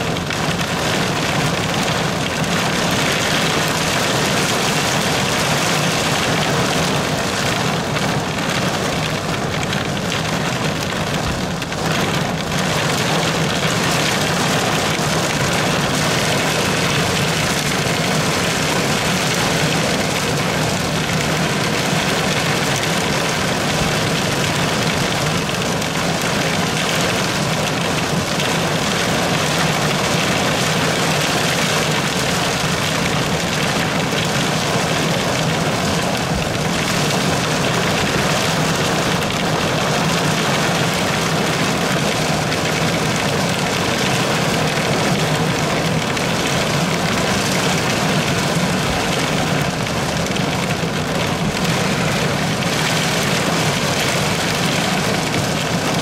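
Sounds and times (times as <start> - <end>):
rain on car roof: 0.0 - 56.0.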